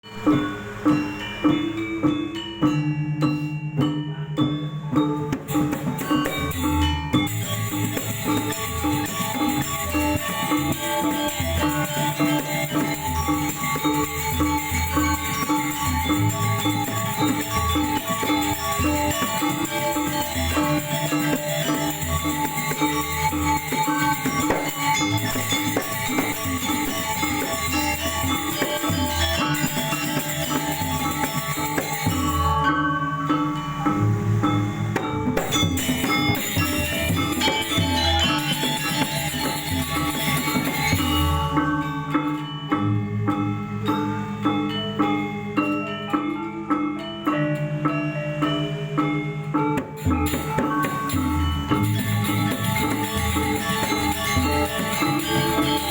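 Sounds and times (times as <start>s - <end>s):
metallophones playing a pattern: 0.0s - 55.9s
small cymbals jangling: 0.0s - 55.9s.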